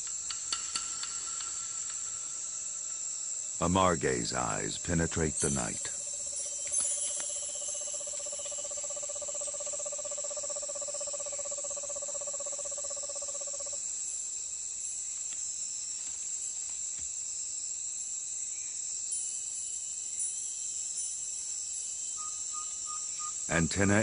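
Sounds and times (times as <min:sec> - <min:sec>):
insect chorus shrill buzz: 0:00.0 - 0:24.0
low fast-pulsed insect trill: 0:00.0 - 0:24.0.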